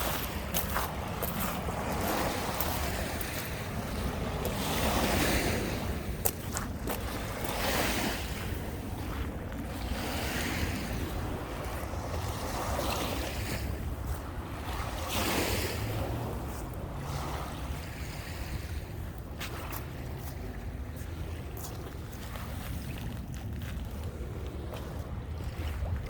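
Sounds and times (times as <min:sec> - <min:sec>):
waves breaking on shore: 0:00.0 - 0:26.0
wind rumbling on microphone: 0:00.0 - 0:26.0.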